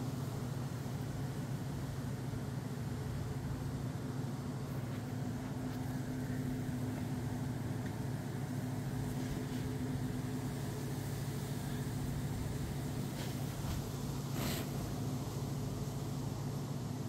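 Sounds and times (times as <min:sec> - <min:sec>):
faint hiss: 0:00.0 - 0:17.0
low mechanical hum: 0:00.0 - 0:17.0.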